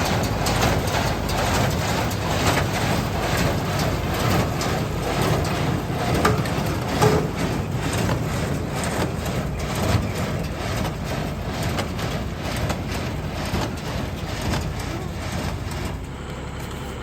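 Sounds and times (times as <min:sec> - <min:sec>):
hay baler clattering: 0:00.0 - 0:17.0
tractor engine drone: 0:00.0 - 0:17.0.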